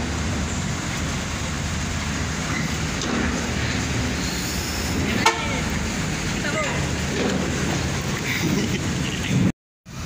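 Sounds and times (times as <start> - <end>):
bus diesel engine rumbling: 0.0 - 10.0.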